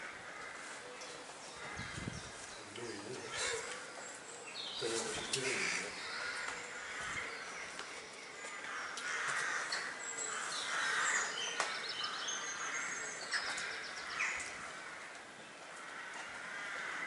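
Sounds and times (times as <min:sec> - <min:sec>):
small birds chirping: 0:00.5 - 0:15.8
harsh caw-like bird calls: 0:01.5 - 0:04.1, 0:04.8 - 0:17.0.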